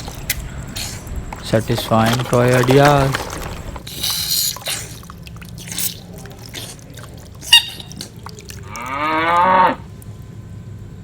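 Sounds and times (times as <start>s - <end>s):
water splashing and dripping: 0.0s - 10.1s.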